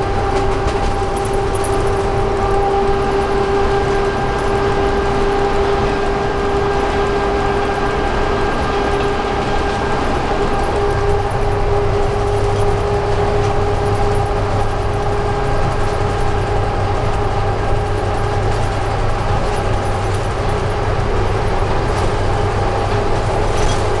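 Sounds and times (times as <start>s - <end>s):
locomotive cab running noise: 0.0s - 24.0s.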